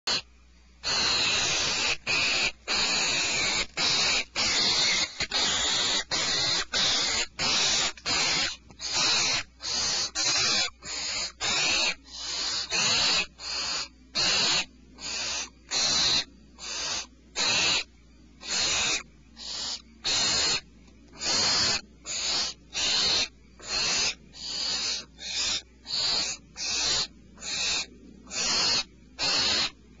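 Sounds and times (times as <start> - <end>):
owlet rasping hissing call: 0.1 - 20.6, 21.2 - 29.8.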